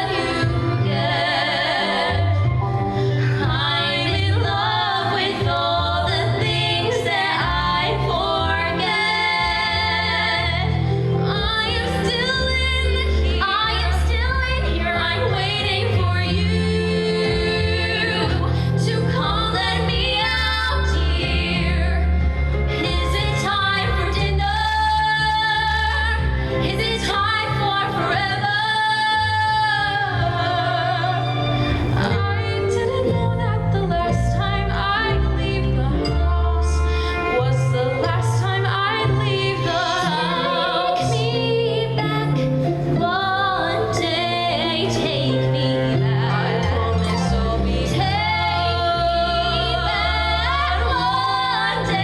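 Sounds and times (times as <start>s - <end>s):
woman singing a ballad: 3.3s - 22.2s, 22.8s - 31.4s, 32.0s - 52.0s.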